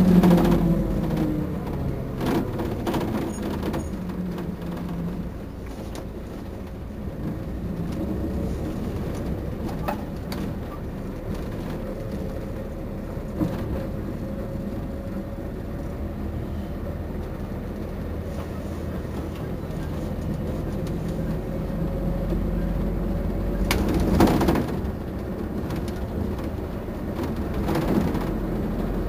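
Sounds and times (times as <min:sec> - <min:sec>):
bus engine idling: 0:00.0 - 0:29.0.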